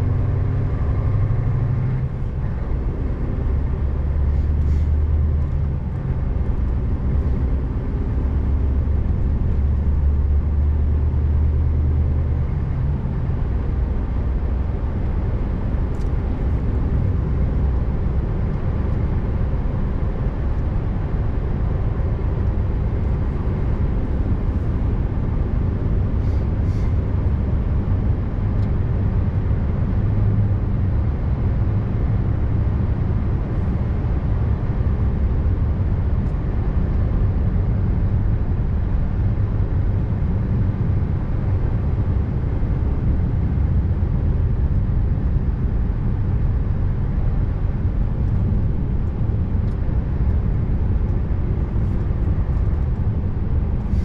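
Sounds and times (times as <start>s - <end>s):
road noise: 0.0s - 54.0s
truck diesel engine droning: 0.0s - 54.0s.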